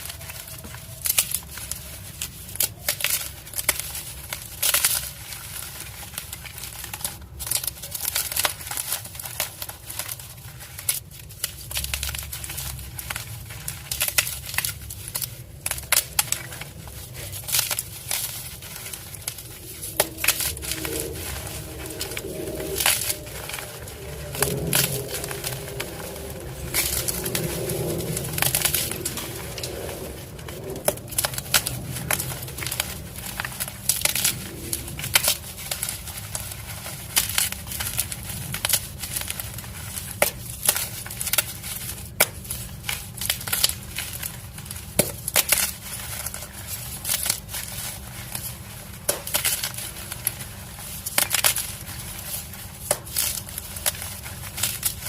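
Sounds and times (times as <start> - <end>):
chalk blocks crunching: 0.0 - 55.0.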